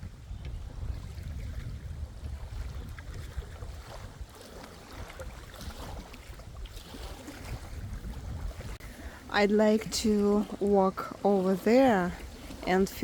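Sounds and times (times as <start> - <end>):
lake waves lapping: 0.0 - 13.0
wind buffeting microphone: 0.0 - 13.0.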